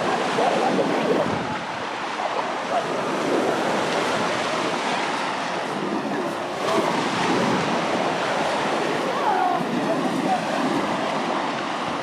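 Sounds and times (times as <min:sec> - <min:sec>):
sea waves washing onto beach: 0:00.0 - 0:12.0
wind buffeting microphone: 0:00.0 - 0:12.0.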